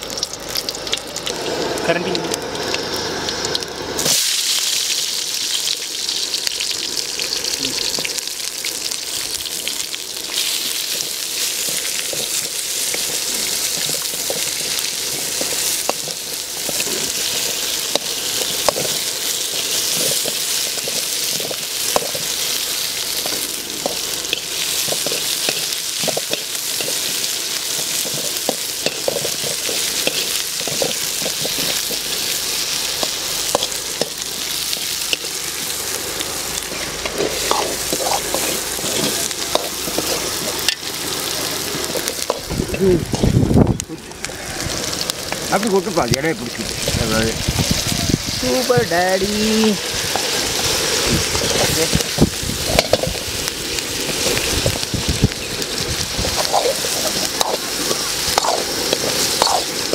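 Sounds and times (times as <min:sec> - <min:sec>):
oil sizzling in a pan: 0:00.0 - 0:59.9.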